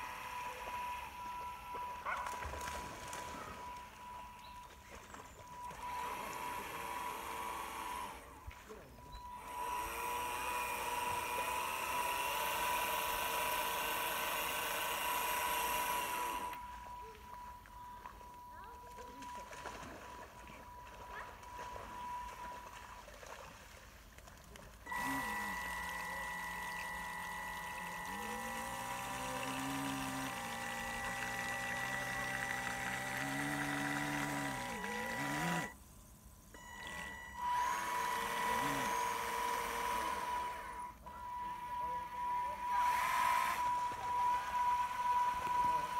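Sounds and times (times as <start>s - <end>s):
model boat motor whining: 0.0s - 45.9s.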